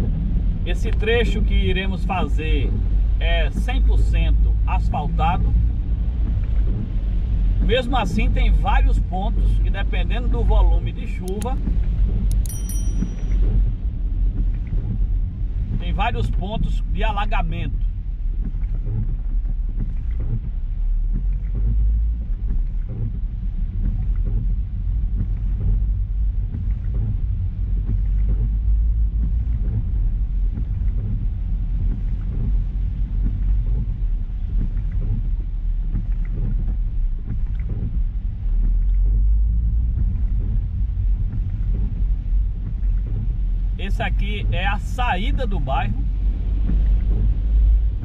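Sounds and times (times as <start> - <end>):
road and engine rumble: 0.0 - 48.0.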